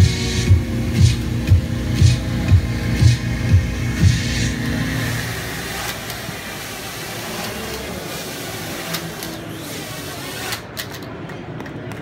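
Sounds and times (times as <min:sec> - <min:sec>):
crowd chatter: 0:00.0 - 0:12.0
drone motors whirring: 0:00.5 - 0:10.8.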